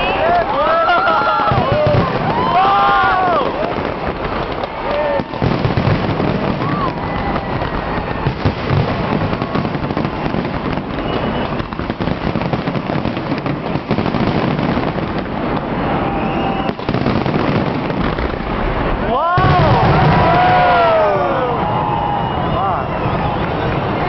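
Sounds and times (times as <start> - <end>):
firework whistles: 0.0 - 24.0
fireworks bangs and crackling: 0.0 - 24.0.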